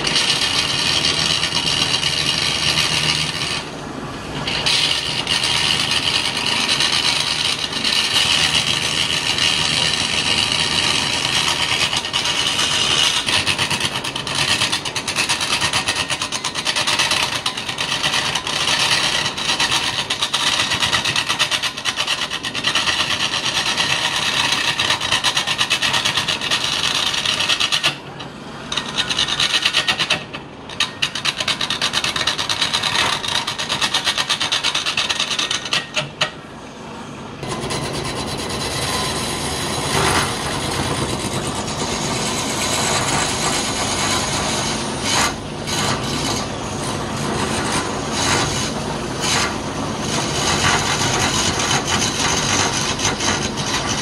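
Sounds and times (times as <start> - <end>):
chisel scraping wood on a lathe: 0.0 - 3.8, 4.4 - 36.4, 37.4 - 54.0.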